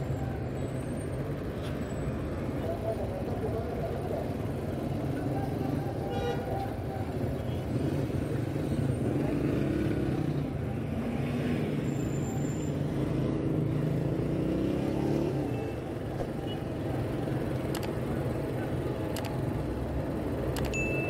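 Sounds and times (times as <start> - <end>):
car engines passing: 0.0 - 21.0.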